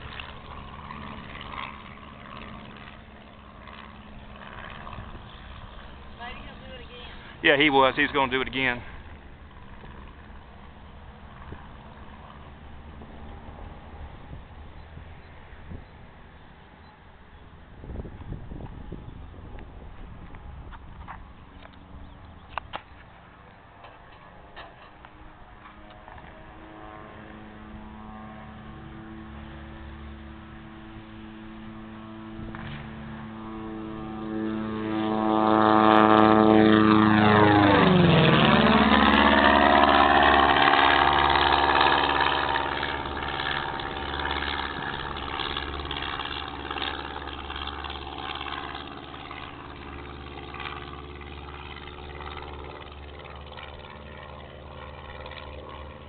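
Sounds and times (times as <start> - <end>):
light aircraft propeller drone: 0.0 - 56.0.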